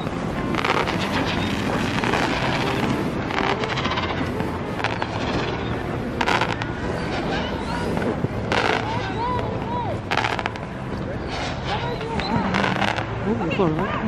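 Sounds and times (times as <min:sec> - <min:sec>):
fireworks crackling: 0:00.0 - 0:14.0
wind rumble on microphone: 0:00.0 - 0:14.0.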